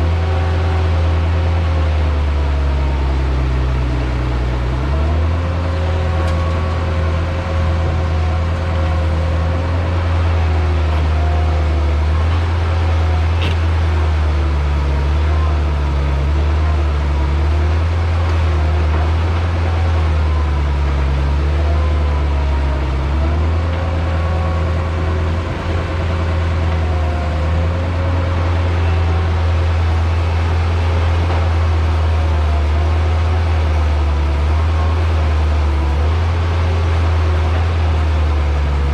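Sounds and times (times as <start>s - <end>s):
heavy diesel engine droning: 0.0s - 38.9s.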